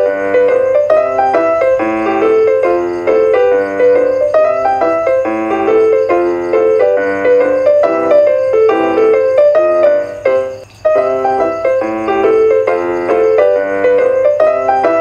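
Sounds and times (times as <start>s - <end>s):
light piano music: 0.0s - 15.0s.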